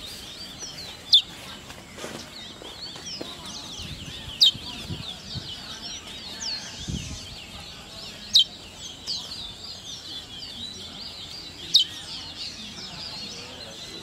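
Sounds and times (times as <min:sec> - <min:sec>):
songbirds chirping and trilling: 0:00.0 - 0:14.0.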